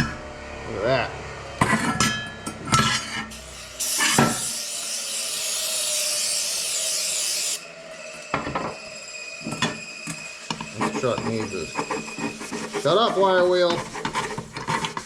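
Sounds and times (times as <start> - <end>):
wire wheel scouring metal: 1.6 - 15.0.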